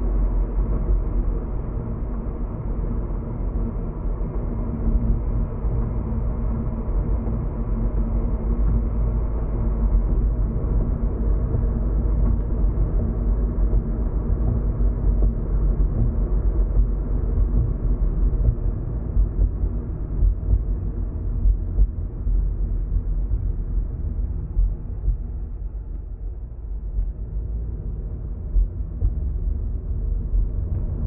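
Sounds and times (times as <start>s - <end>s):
car road and engine rumble: 0.0s - 31.0s
constant drone: 0.0s - 31.0s.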